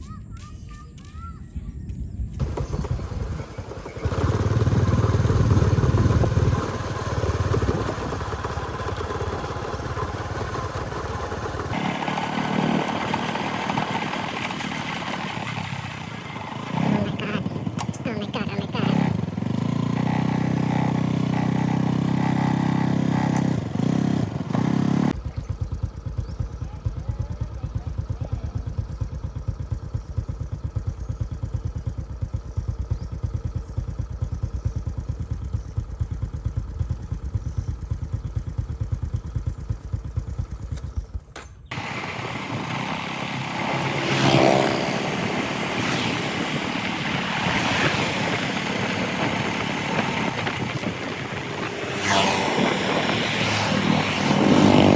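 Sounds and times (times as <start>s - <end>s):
motorcycle engine running: 2.3s - 54.9s.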